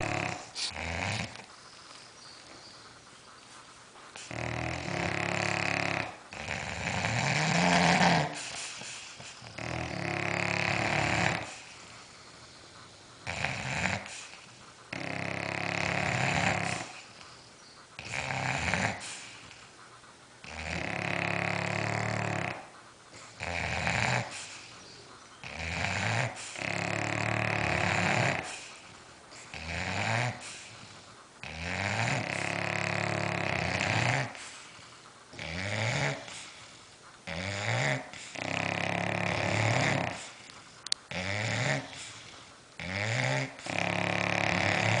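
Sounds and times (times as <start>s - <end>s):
dogs snoring loudly: 0.0s - 45.0s.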